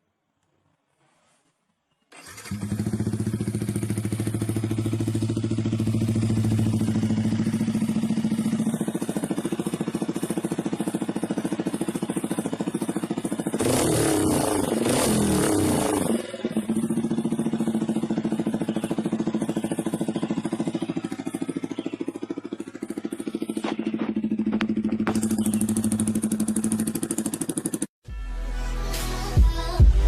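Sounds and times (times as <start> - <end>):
motorcycle engine starting and idling: 2.0 - 28.0.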